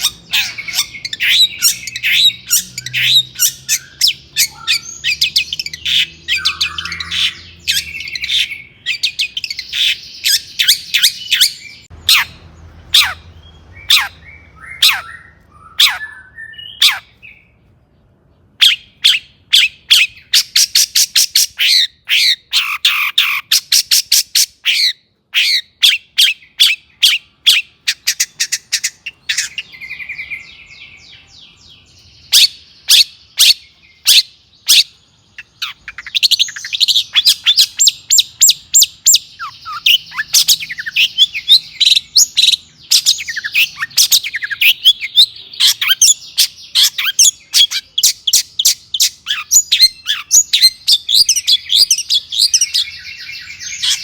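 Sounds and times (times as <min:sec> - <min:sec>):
shrike singing and chattering: 0:00.0 - 0:54.0.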